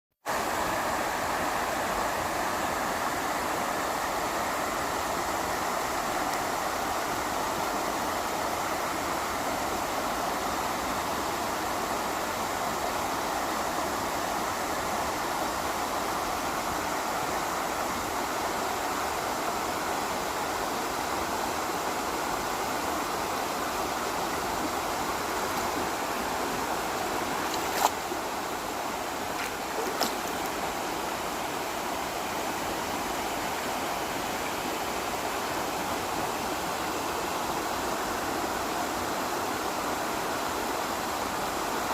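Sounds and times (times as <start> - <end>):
waterfall rushing: 0.3 - 41.9.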